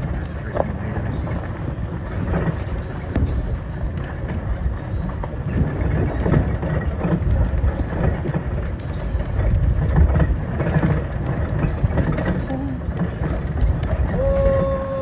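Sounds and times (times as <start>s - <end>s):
cart wheels rumbling on gravel: 0.0s - 15.0s
rattles and knocks: 0.0s - 15.0s
wind on microphone: 0.0s - 15.0s.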